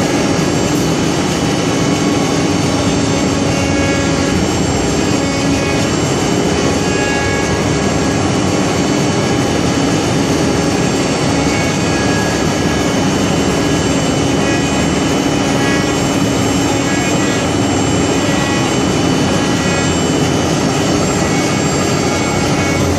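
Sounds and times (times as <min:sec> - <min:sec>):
cnc router machining wood: 0:00.0 - 0:22.9
spindles whining: 0:00.0 - 0:22.9.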